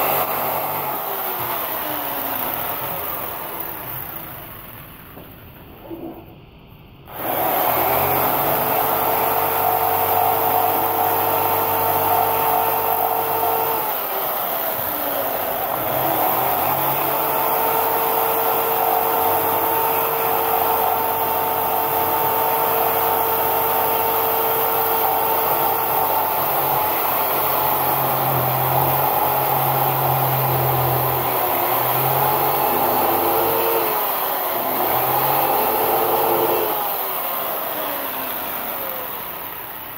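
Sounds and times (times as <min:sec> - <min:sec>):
jigsaw cutting foam board: 0:00.0 - 0:06.2, 0:07.1 - 0:39.9.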